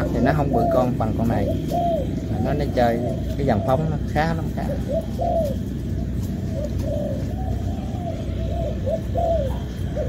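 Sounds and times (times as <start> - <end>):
doves cooing: 0.0 - 10.0.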